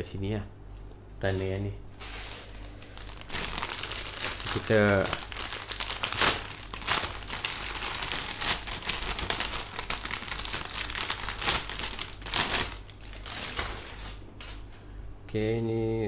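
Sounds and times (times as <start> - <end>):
plastic bags crinkling: 1.3 - 14.6.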